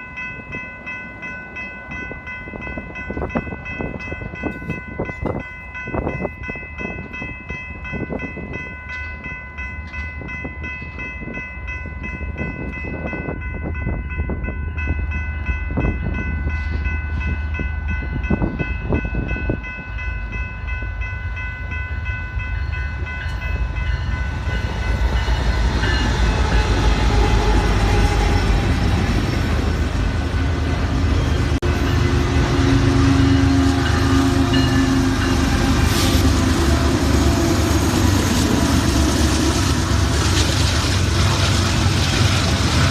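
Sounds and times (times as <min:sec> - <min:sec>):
freight train rumbling past: 0:00.0 - 0:42.9.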